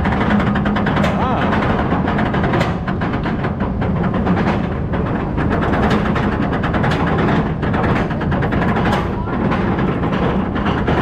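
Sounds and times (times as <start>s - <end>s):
lift chain clacking: 0.0s - 11.0s
low rumble: 0.0s - 11.0s.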